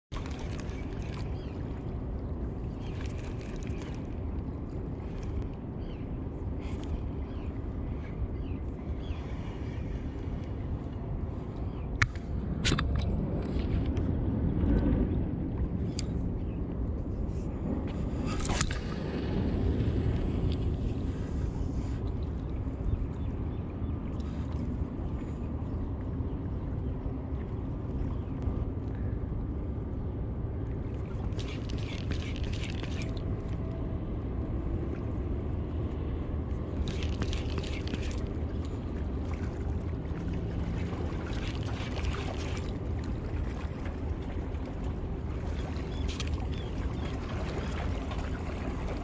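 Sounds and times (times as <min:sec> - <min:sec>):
wind rumble on microphone: 0:00.1 - 0:49.0.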